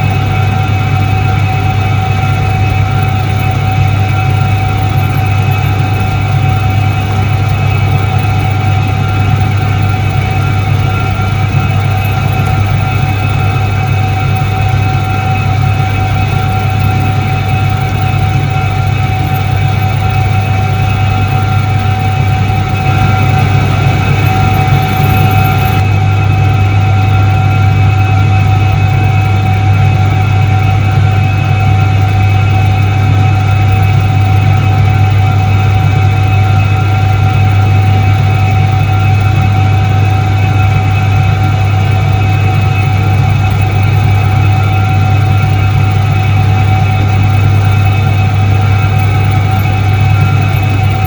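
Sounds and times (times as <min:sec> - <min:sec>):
constant whine: 0:00.0 - 0:51.0
washing machine motor hum: 0:00.0 - 0:51.0.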